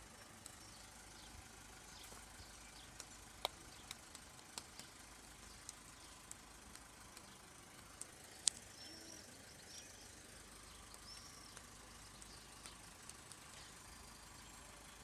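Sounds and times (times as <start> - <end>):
faint ticks: 0.2 - 1.3, 2.0 - 9.3, 10.4 - 14.9.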